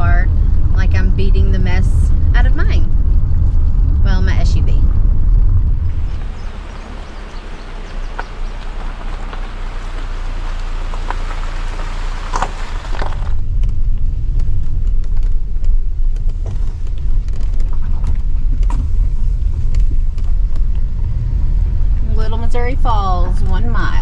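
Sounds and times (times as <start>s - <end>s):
car tyres rumbling on gravel: 0.0s - 24.0s.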